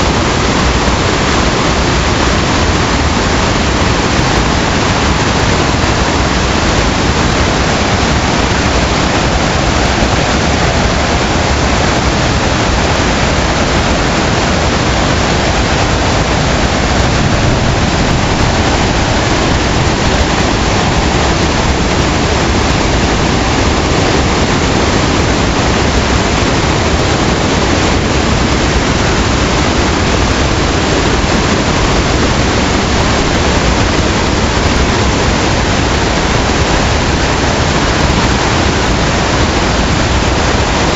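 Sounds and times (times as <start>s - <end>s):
floodwater rushing: 0.0s - 40.9s.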